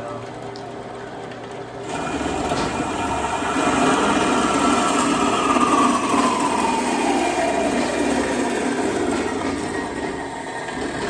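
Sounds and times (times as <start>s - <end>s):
bandsaw cutting metal tubing: 1.8s - 11.0s.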